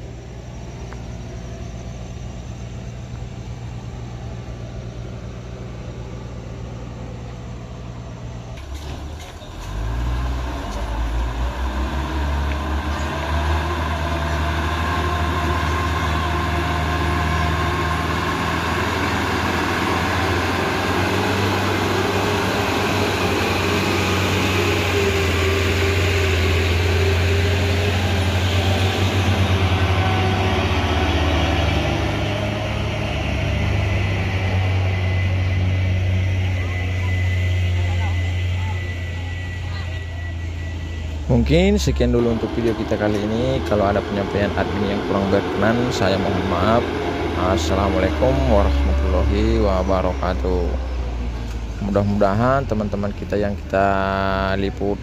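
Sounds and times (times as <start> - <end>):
diesel truck engine idling: 0.0 - 55.0
truck engine pulling under load: 0.0 - 55.0.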